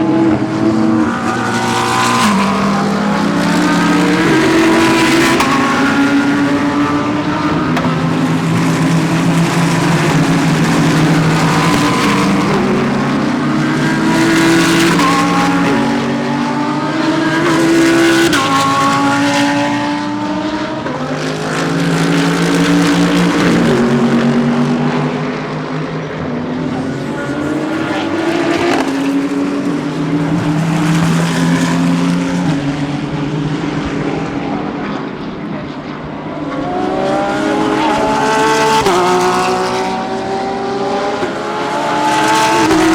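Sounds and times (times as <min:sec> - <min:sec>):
race cars accelerating: 0:00.0 - 0:42.9.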